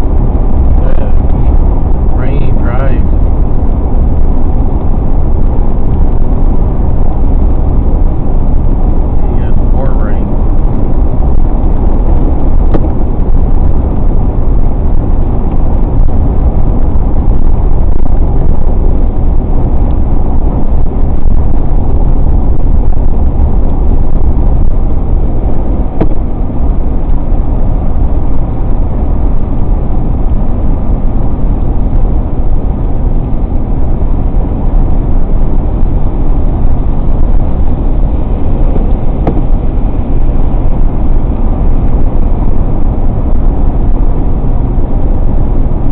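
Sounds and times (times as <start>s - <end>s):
car road noise on wet highway: 0.0s - 45.9s.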